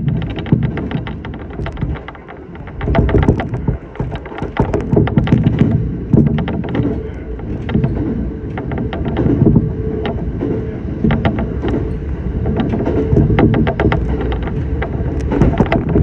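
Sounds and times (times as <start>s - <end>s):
electric train rumbling: 0.0s - 16.0s
faint steady hum: 0.0s - 16.0s
train wheels clicking: 0.0s - 16.0s.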